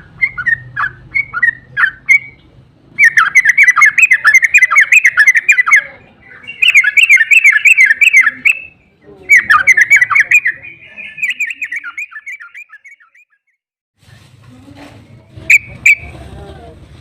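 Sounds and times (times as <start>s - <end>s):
bird chattering song: 0.0s - 13.5s, 15.5s - 16.1s.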